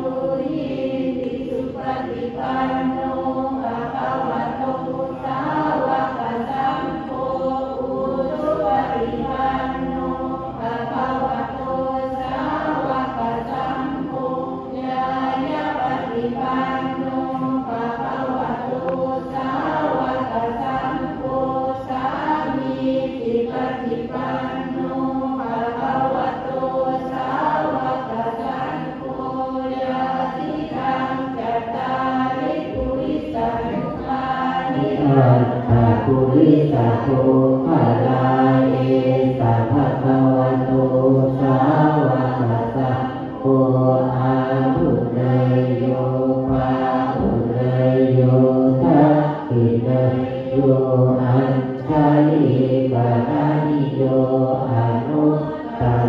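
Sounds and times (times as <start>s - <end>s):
group chanting prayers in unison: 0.0s - 56.0s.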